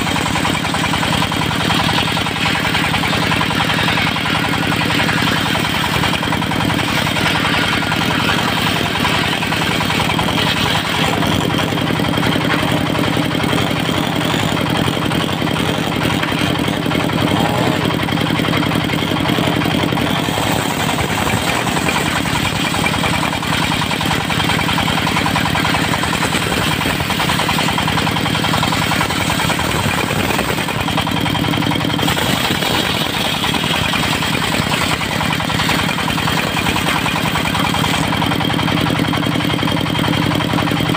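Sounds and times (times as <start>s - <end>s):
circular saw blade whine: 0.0s - 39.6s
diesel engine drone: 0.0s - 40.9s.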